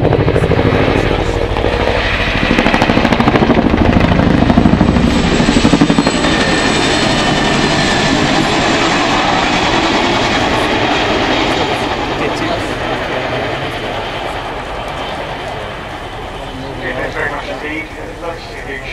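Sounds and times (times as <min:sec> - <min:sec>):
helicopter rotor blades beating: 0:00.0 - 0:18.9.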